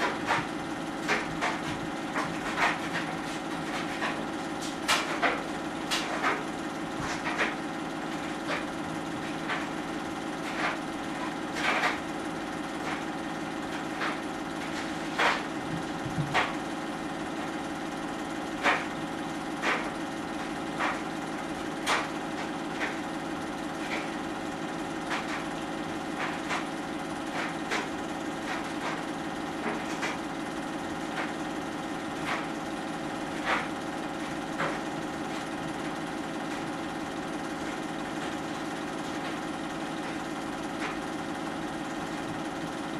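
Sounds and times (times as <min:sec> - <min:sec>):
film projector running: 0:00.0 - 0:42.9.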